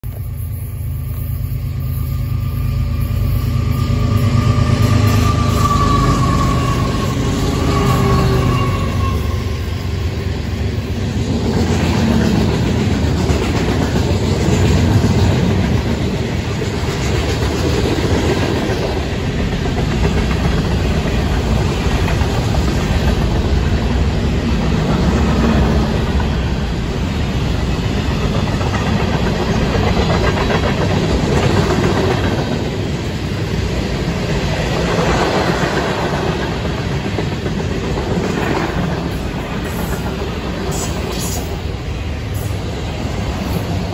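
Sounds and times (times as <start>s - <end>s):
freight train wheels rumbling and clattering: 0.0s - 43.9s.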